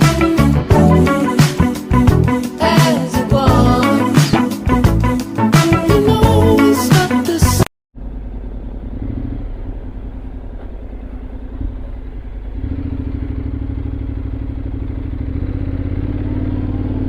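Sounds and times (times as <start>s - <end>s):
motorcycle engine accelerating: 0.0s - 6.5s, 8.0s - 17.0s.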